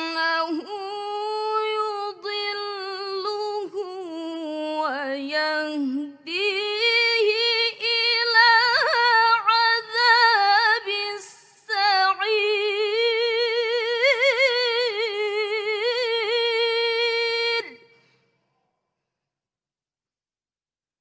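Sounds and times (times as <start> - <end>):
girl reciting melodically: 0.0 - 17.7.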